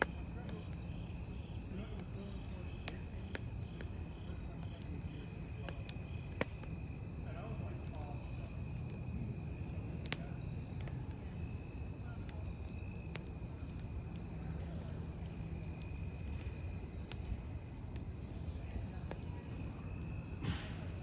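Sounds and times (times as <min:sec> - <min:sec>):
campfire crackling: 0:00.0 - 0:21.0
crickets chirring: 0:00.0 - 0:21.0.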